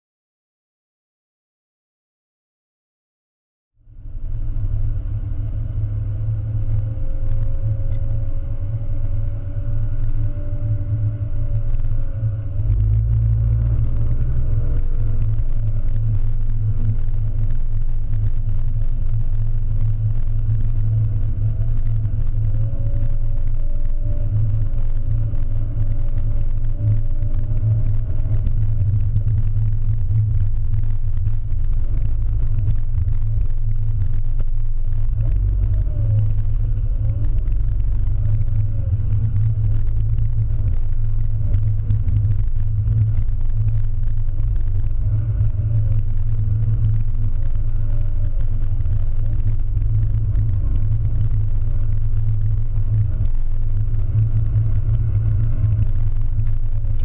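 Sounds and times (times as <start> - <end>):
car engine and road rumble: 3.8 - 57.0.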